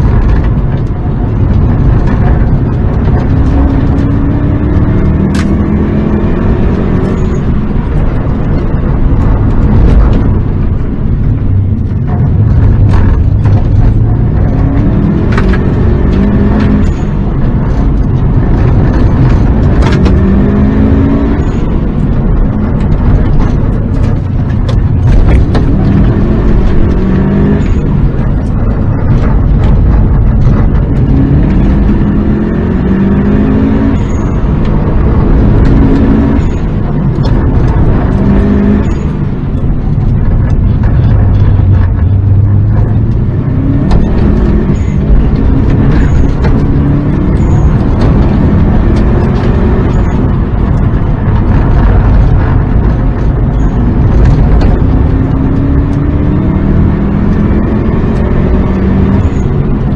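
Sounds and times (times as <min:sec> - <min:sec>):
car engine revving through gears: 0:00.0 - 0:59.9
road and tyre noise: 0:00.0 - 0:59.9.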